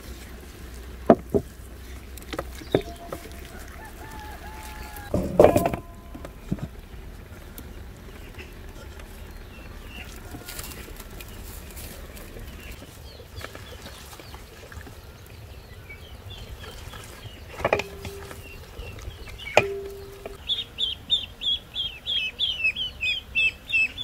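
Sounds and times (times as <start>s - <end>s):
birds chirping: 0.0s - 24.0s
low steady background hum: 0.0s - 24.0s.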